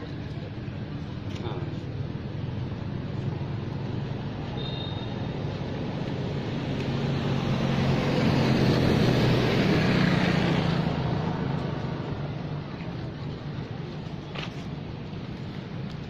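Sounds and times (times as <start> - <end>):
passing vehicle engine hum: 2.2 - 15.9.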